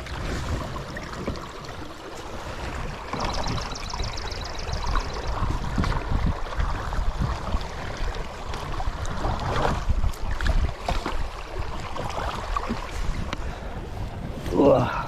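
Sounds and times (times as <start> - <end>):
paddle strokes splashing water: 0.0 - 14.7
wind buffeting microphone: 0.0 - 15.0.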